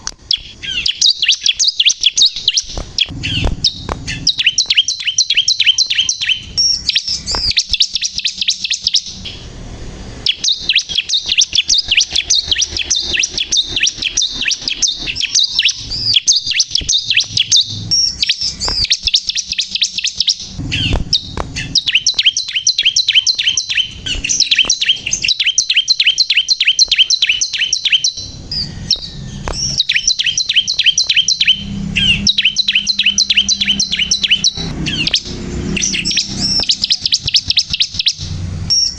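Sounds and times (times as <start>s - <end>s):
sharp clicks: 0.0s - 9.4s, 10.2s - 38.7s
bird chirping rapidly: 0.0s - 38.9s.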